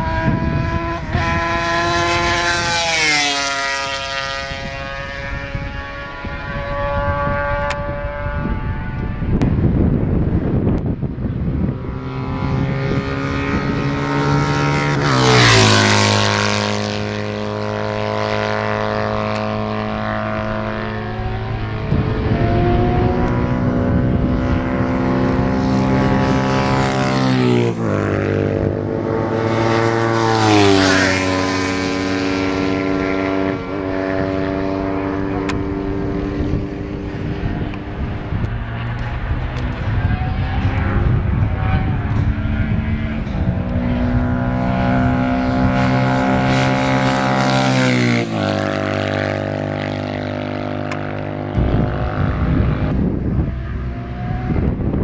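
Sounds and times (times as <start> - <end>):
motorcycles passing at speed: 0.0 - 55.0.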